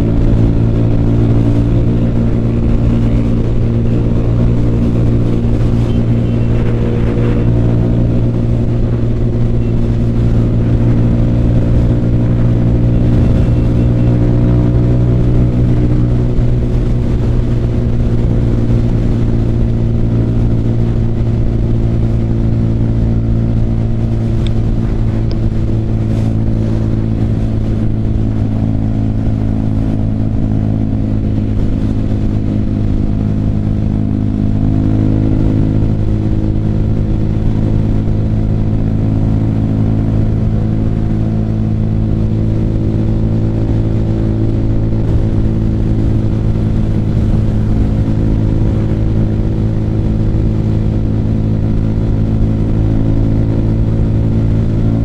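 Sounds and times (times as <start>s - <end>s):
motorcycle engine humming: 0.0s - 55.0s
road noise rush: 0.0s - 55.0s.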